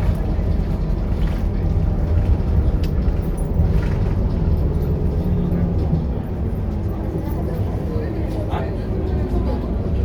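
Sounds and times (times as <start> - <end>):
bus diesel engine rumbling: 0.0 - 10.0.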